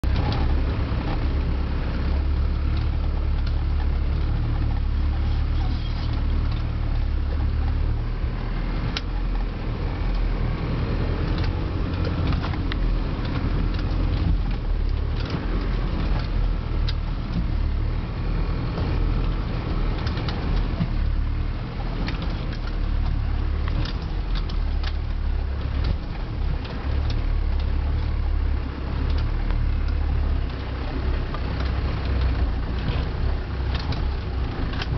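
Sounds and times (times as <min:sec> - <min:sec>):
diesel engine running: 0:00.0 - 0:34.9
vehicle knocks and rattles: 0:00.0 - 0:34.9.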